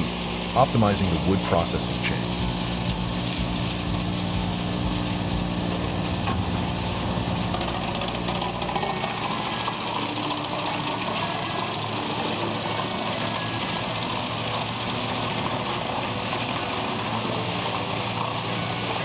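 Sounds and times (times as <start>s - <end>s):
wood chipper running: 0.0s - 19.0s.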